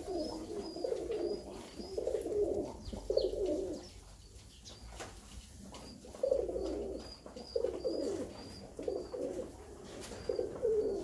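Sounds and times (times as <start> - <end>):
beaks pecking grain on concrete: 0.0 - 11.0.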